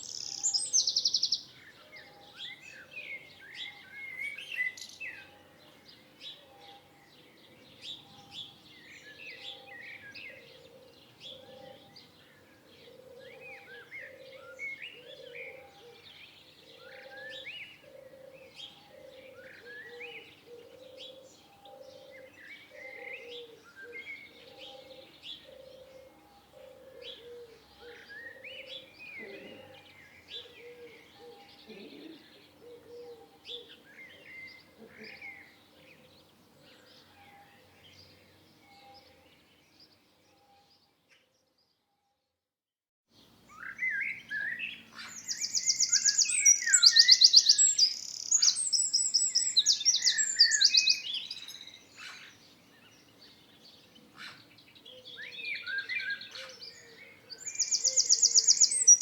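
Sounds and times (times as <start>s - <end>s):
songbirds chirping: 0.0s - 42.2s, 43.1s - 59.0s.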